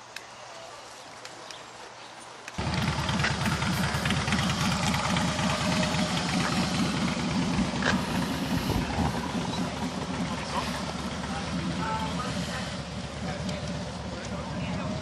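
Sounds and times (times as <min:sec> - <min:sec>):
car engine idling: 0:02.6 - 0:15.0.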